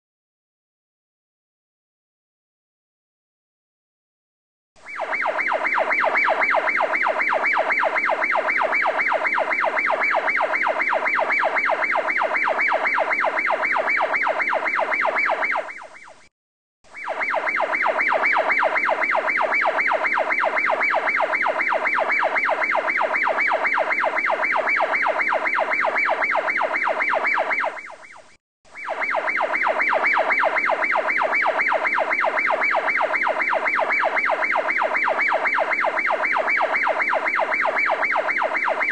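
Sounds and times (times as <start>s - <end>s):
pulsing siren-like electronic tone: 4.8s - 16.3s, 16.9s - 38.9s.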